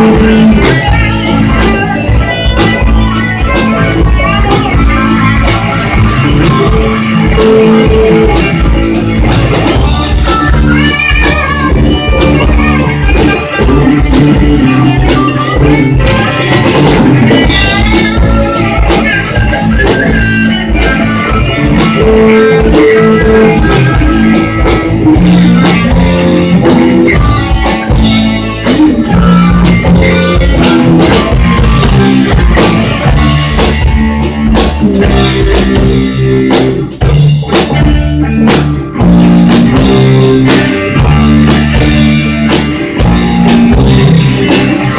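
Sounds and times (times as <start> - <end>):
drum kit: 0.0 - 44.9
electric guitar: 0.0 - 44.9
live bluesy rock band: 0.0 - 44.9.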